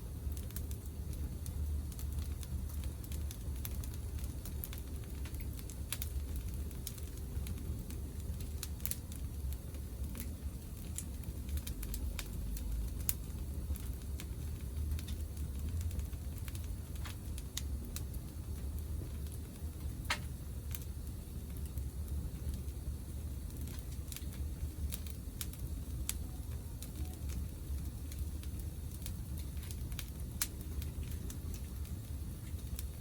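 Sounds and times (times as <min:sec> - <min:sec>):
low steady rumble: 0:00.0 - 0:33.0
wood fire crackling: 0:00.0 - 0:33.0.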